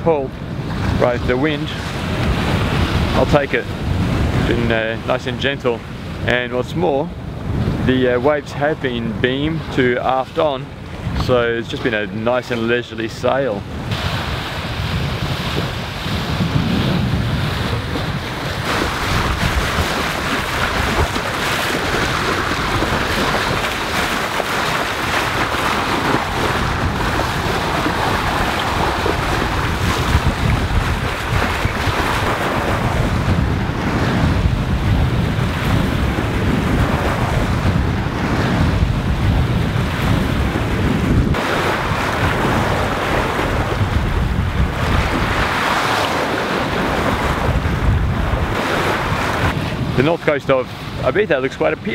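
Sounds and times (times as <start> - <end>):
wind buffeting microphone: 0.0 - 51.9
sea splashing along hull: 0.3 - 8.8, 9.4 - 51.9.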